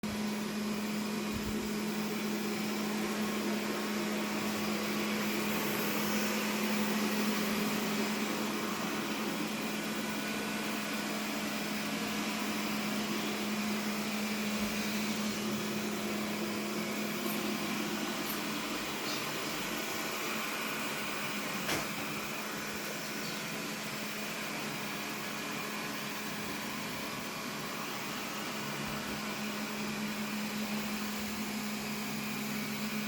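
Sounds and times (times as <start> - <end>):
robot vacuum motor humming: 0.2 - 33.0.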